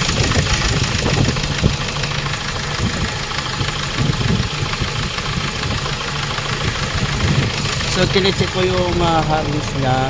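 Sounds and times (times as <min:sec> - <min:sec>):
diesel engine idling with knock: 0:00.0 - 0:10.0.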